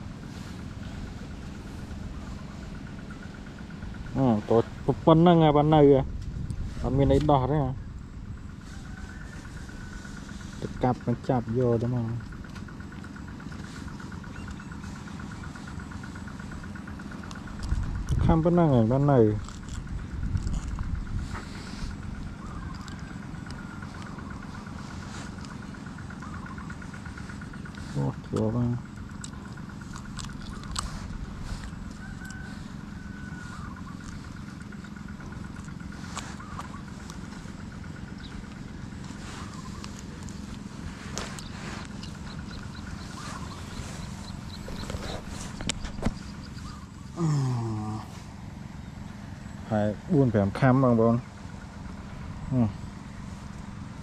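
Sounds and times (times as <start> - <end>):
small engine running: 0.0 - 54.0
bird chirps: 6.7 - 54.0.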